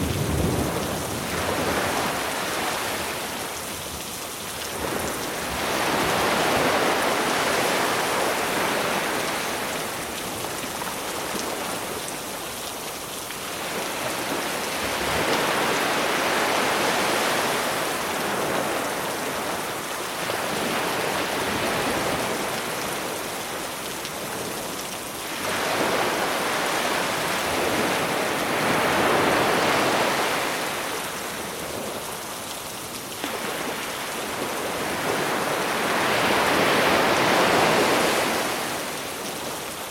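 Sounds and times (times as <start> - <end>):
sea waves breaking: 0.0 - 3.6, 4.7 - 12.0, 13.5 - 23.6, 25.2 - 31.8, 33.2 - 39.6.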